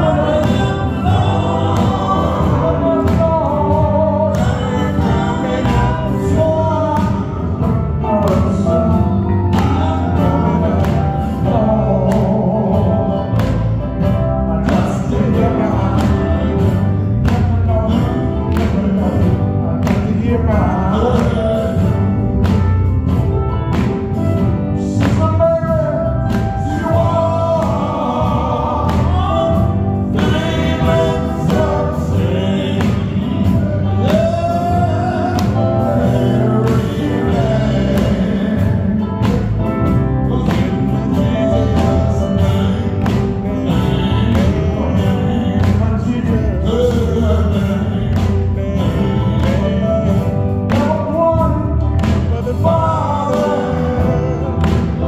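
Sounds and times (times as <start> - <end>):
electric guitar: 0.0 - 55.0
man singing gospel: 0.0 - 55.0
steady drum beat: 0.0 - 55.0.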